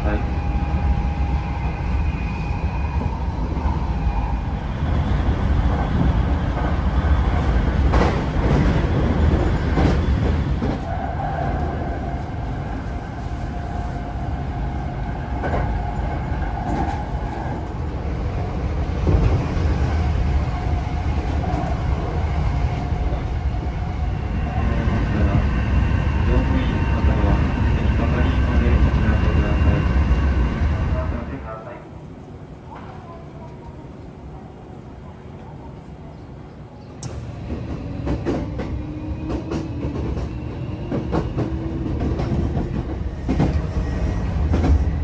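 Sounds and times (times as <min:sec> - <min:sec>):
train wheels rumbling on rails: 0:00.0 - 0:31.4, 0:37.0 - 0:45.0.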